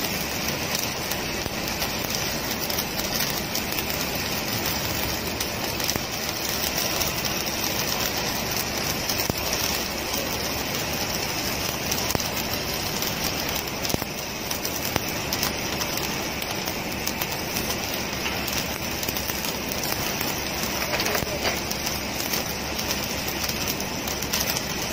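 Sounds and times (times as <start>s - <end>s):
welding arc crackling and sizzling: 0.0s - 24.9s.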